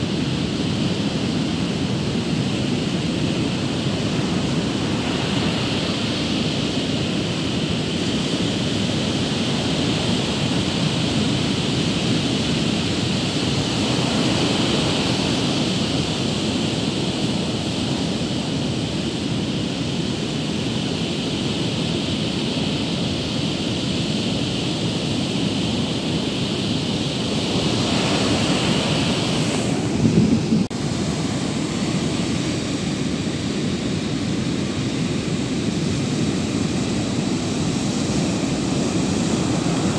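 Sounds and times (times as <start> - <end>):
surf breaking on a beach: 0.0 - 39.9
wind buffeting the microphone: 0.0 - 39.9.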